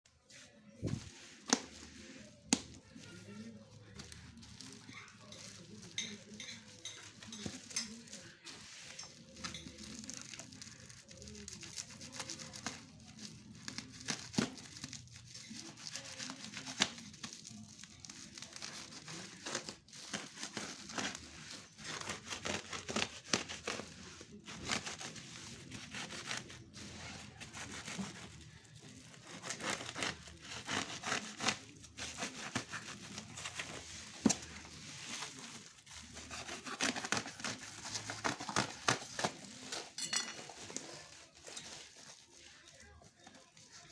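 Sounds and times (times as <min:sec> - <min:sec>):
packaging crinkling and rustling: 0:00.5 - 0:43.9.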